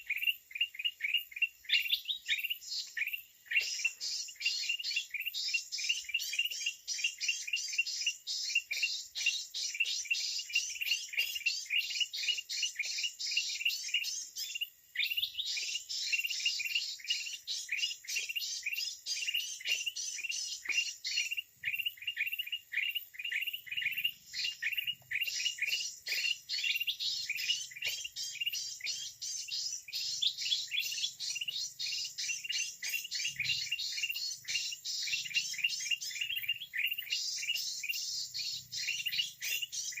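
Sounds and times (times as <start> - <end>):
rapid bird chirping: 0.0 - 40.0.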